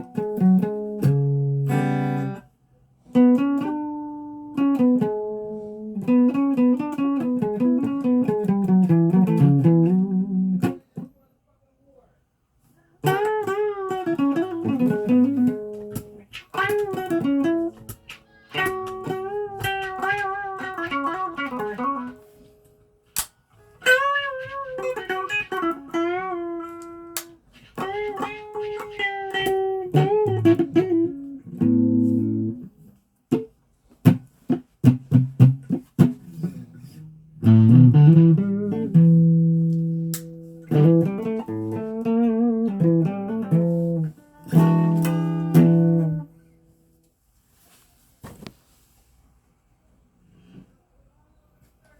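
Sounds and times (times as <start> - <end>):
guitar notes with vibrato and bends: 0.0 - 2.5, 3.1 - 10.8, 13.0 - 22.8, 23.6 - 46.6.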